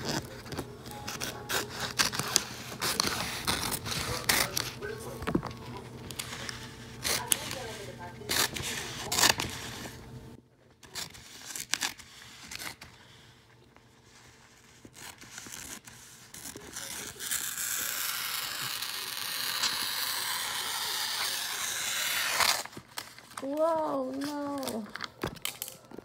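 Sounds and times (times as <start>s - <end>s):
scissors snipping paper: 0.0s - 10.0s, 10.8s - 13.2s, 14.3s - 26.0s
scissors gliding through paper: 0.0s - 10.1s, 10.8s - 26.0s
paper crackling: 0.0s - 26.0s.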